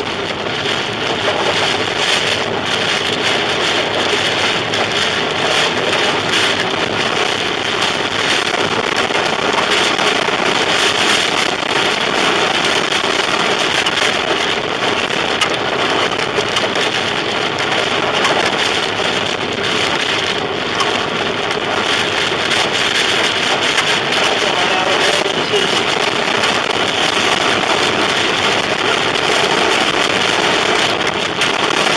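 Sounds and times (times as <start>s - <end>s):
car driving noise: 0.0s - 31.9s
rain pelting a car: 0.0s - 31.9s.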